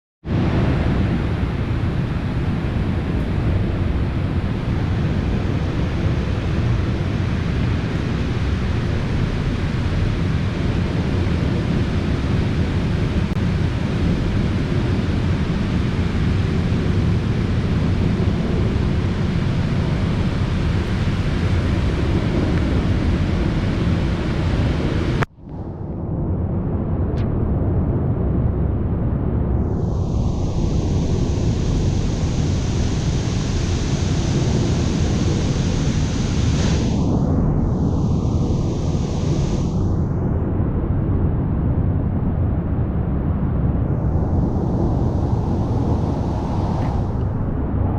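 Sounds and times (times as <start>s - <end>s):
storm wind on microphone: 0.2s - 47.9s.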